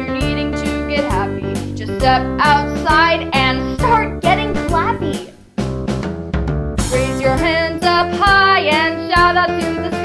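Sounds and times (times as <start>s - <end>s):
upbeat children's song: 0.0s - 5.7s, 6.8s - 10.0s
drum-kit beat with bass: 0.1s - 9.8s.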